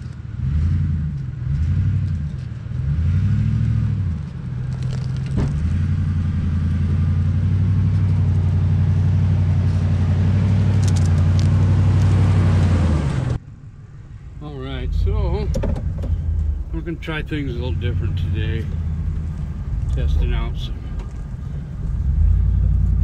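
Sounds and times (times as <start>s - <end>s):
pickup truck engine revving: 0.0s - 13.4s, 14.4s - 23.0s.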